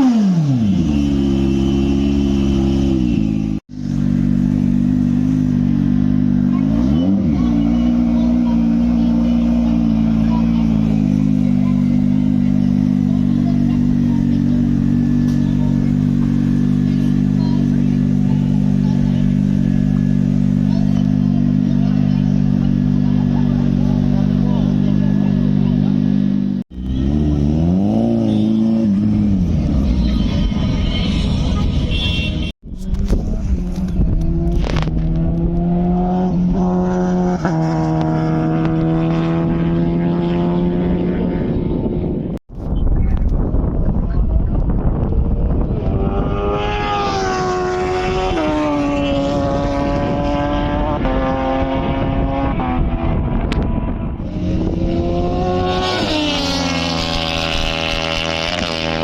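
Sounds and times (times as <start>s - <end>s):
motorcycle engine running steadily: 0.0s - 36.8s, 40.4s - 46.9s, 47.8s - 59.0s.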